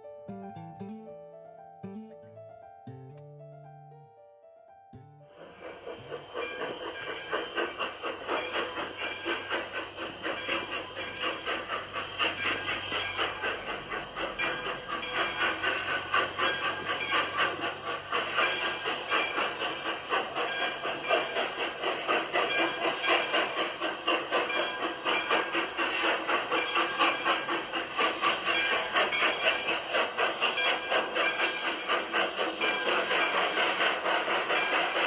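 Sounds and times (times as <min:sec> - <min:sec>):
train clattering rumble: 0:05.4 - 0:35.0.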